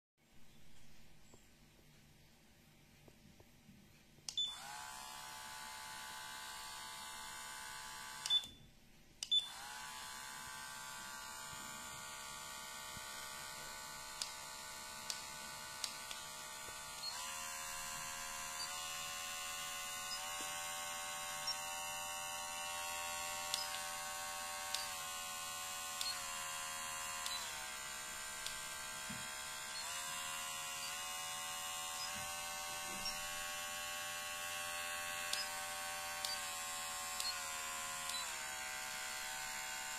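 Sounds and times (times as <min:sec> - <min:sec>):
hair clipper motor buzzing: 0:04.5 - 0:08.5, 0:09.3 - 0:39.9.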